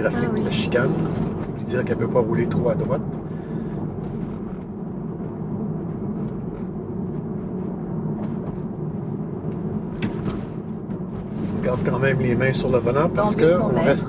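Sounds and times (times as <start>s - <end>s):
road and tyre rumble in car: 0.0s - 14.0s.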